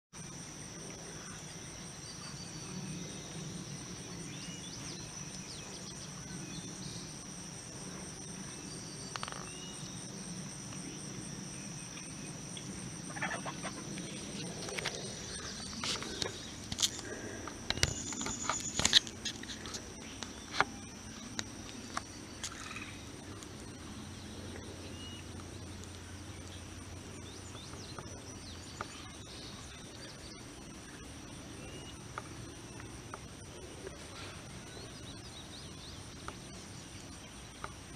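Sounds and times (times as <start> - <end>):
high-pitched insect chorus: 0.2 - 37.9.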